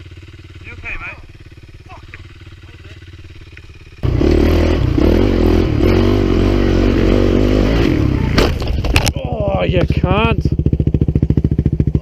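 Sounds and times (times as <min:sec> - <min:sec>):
dirt bike engine revving: 0:00.0 - 0:08.8, 0:09.6 - 0:12.0.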